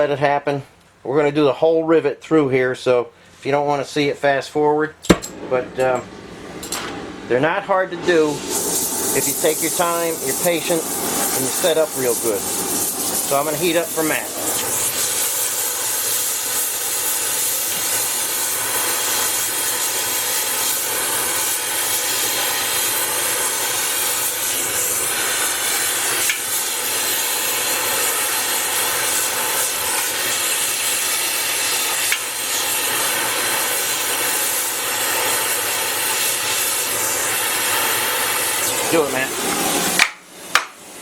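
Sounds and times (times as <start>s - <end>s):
gas torch flame hissing: 5.1s - 41.0s.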